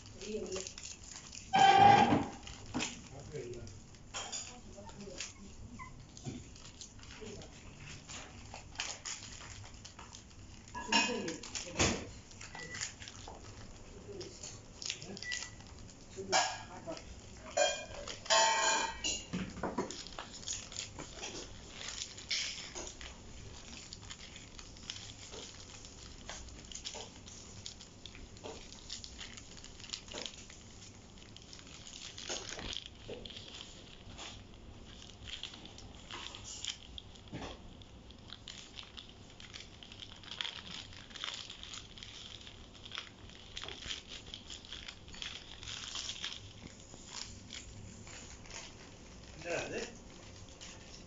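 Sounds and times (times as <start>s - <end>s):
paper crinkling and rustling: 0.0s - 51.0s
puppies biting and scuffling: 0.0s - 51.0s.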